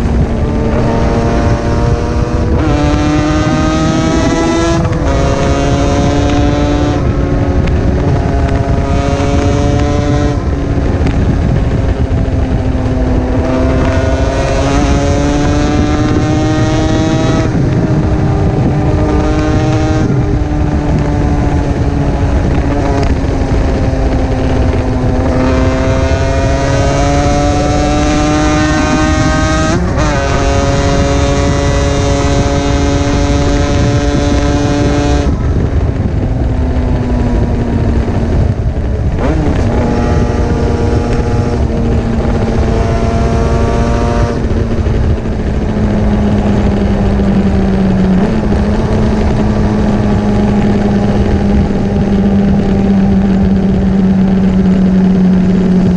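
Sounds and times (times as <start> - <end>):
motorcycle engine cruising: 0.0 - 55.9
wind rush: 0.0 - 55.9.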